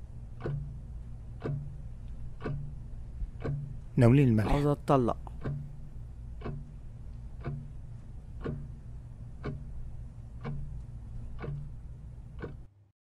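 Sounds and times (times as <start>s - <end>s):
low hum: 0.0s - 12.4s
clock ticking: 0.2s - 12.7s.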